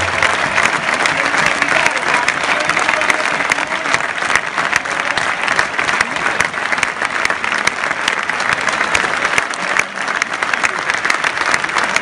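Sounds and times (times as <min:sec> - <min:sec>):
stadium crowd applauding: 0:00.0 - 0:12.0.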